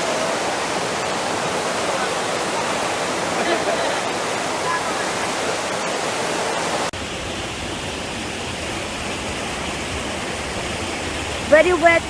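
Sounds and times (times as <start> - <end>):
small waterfall rushing: 0.0 - 12.0
soft dull water rush: 0.0 - 12.0.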